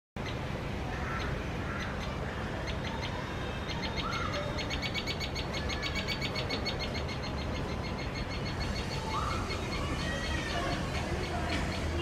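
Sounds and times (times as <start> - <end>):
small bird calling: 0.2 - 12.0.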